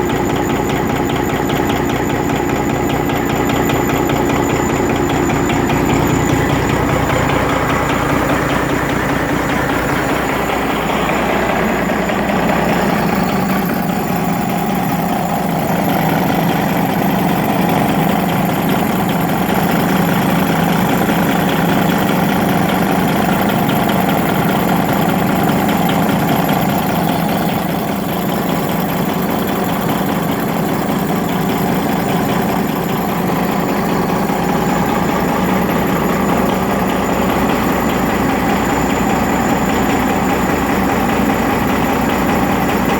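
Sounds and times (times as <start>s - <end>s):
diesel engine idling with knock: 0.0s - 42.9s.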